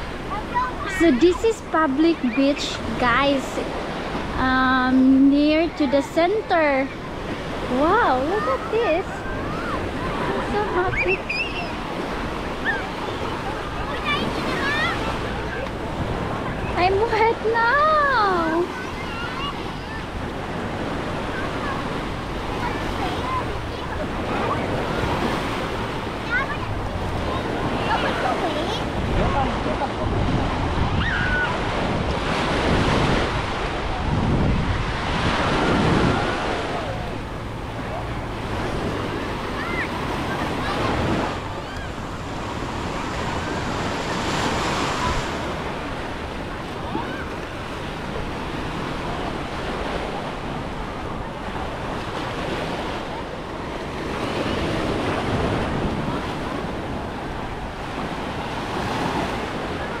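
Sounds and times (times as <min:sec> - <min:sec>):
sea waves washing onto beach: 0:00.0 - 1:00.0
wind buffeting microphone: 0:00.0 - 1:00.0.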